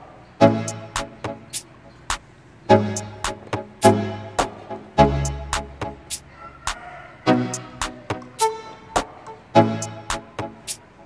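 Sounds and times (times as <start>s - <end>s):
music with short sharp notes: 0.4s - 6.3s, 7.3s - 11.0s.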